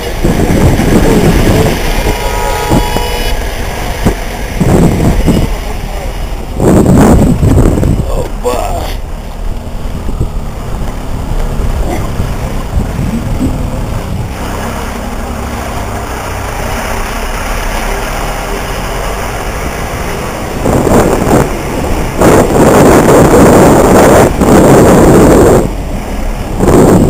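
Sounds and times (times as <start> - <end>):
loud rough rushing noise: 0.0 - 27.0.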